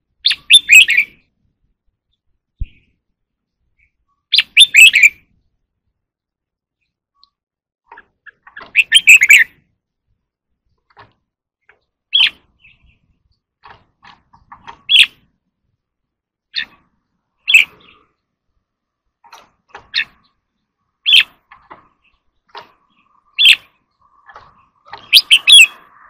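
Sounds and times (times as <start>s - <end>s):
bird singing chirpy phrases: 0.1s - 9.8s, 11.6s - 13.8s, 14.4s - 15.3s, 16.4s - 26.0s.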